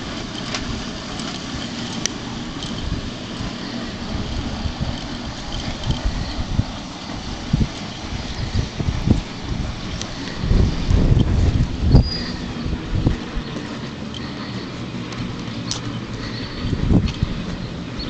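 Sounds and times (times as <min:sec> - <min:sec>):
engine idling roughly: 0:00.0 - 0:18.0.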